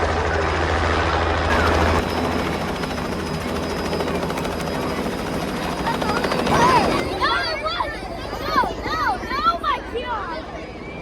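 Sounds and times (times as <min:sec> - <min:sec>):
helicopter rotor thrum: 0:00.0 - 0:09.0.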